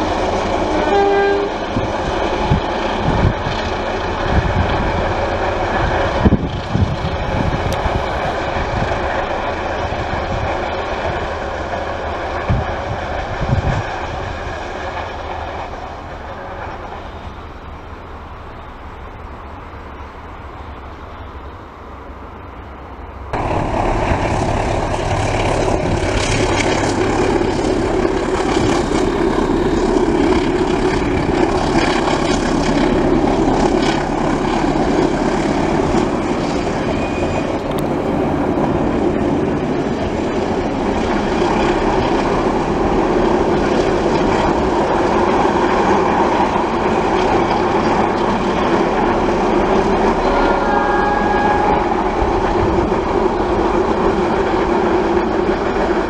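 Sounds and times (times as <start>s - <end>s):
locomotive engine running: 0.0s - 56.0s
train wheels rumbling on rails: 0.0s - 56.0s.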